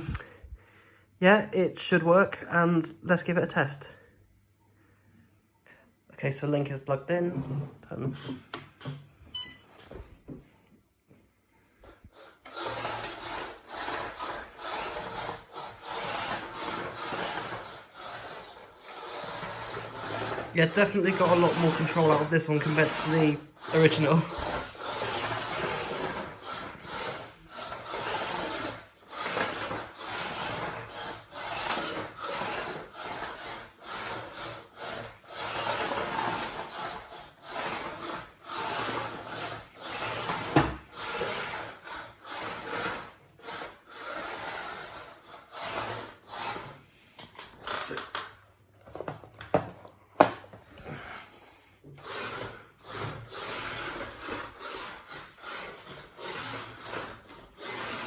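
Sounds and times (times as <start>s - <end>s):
plastic scraping across floor: 7.1s - 9.2s, 9.8s - 58.0s.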